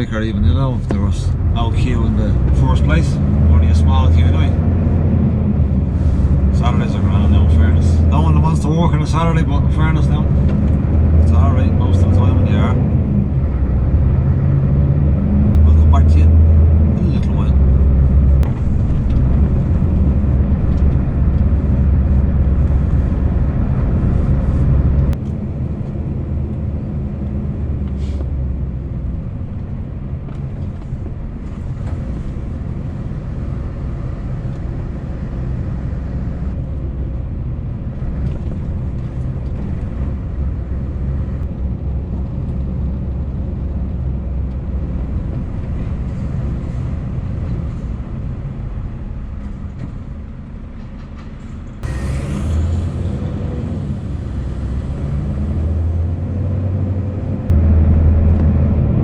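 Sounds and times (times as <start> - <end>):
diesel lorry engine running: 0.0 - 59.0.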